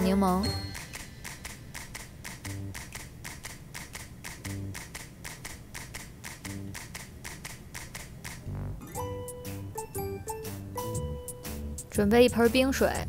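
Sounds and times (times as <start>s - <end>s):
music with ticking beat: 0.0s - 13.0s.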